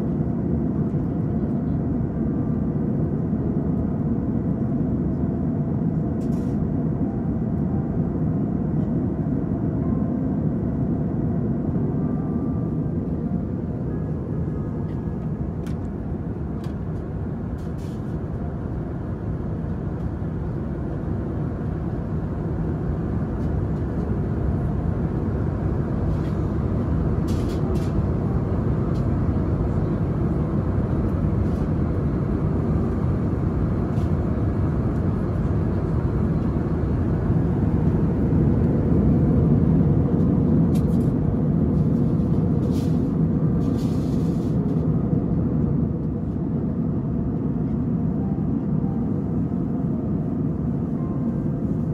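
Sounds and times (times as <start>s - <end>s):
airliner engine roar in cabin: 0.0s - 51.9s.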